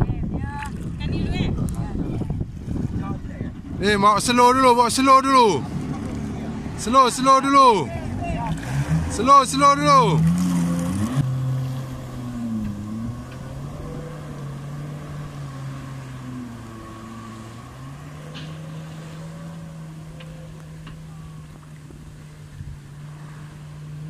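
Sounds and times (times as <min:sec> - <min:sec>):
watercraft engine drone: 0:00.0 - 0:24.0.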